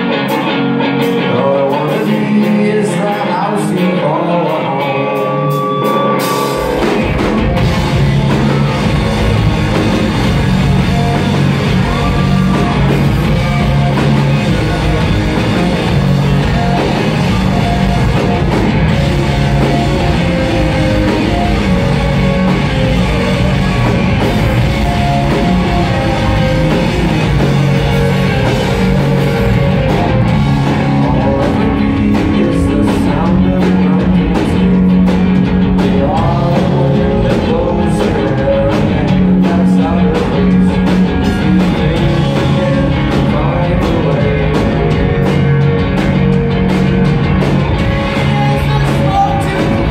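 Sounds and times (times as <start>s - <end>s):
bass guitar: 0.0s - 49.9s
distorted electric guitars: 0.0s - 49.9s
drum kit: 4.5s - 49.9s.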